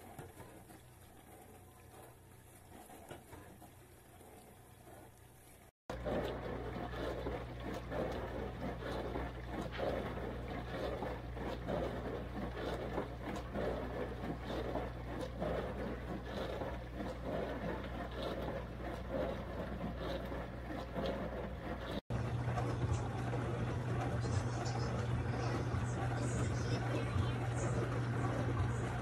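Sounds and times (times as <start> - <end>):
dishwasher pump motor hum: 0.0 - 29.0
water splashing inside dishwasher: 0.0 - 29.0.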